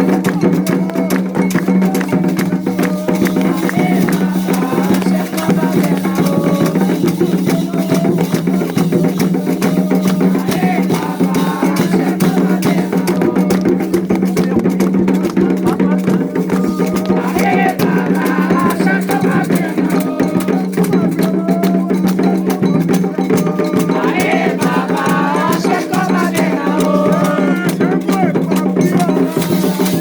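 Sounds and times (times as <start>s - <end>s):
drums and rattles: 0.0s - 30.0s
voices chanting: 0.0s - 30.0s.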